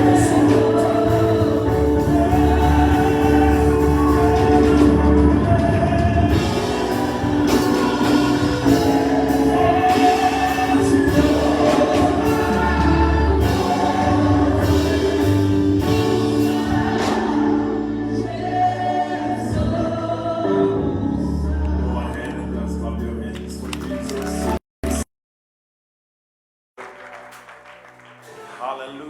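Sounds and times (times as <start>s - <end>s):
choir and congregation singing: 0.0s - 24.4s
band with steady bass: 0.0s - 25.0s.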